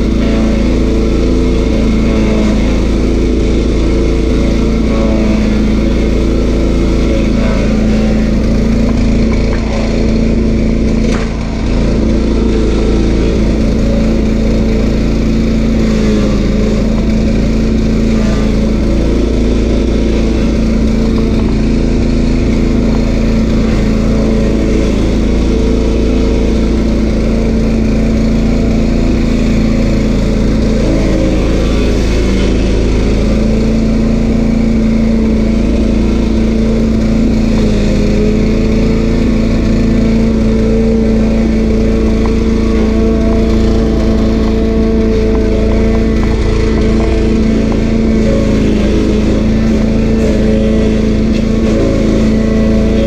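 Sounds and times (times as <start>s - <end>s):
stump grinder engine running: 0.0s - 53.0s.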